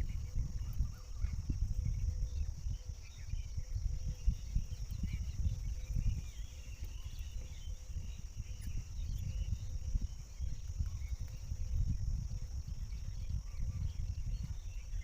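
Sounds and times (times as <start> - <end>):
faint bird chirps: 0.0 - 15.0
wind rumble on microphone: 0.0 - 15.0.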